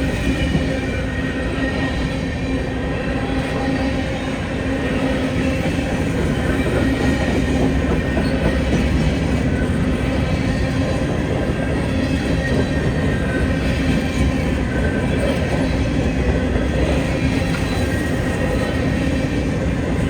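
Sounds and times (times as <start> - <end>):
freight train rumbling on rails: 0.0 - 20.0.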